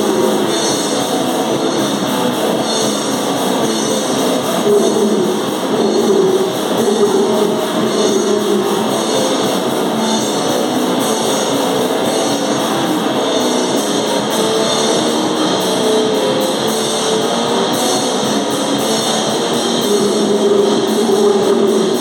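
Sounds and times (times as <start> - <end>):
noise metal band playing live: 0.0 - 22.0.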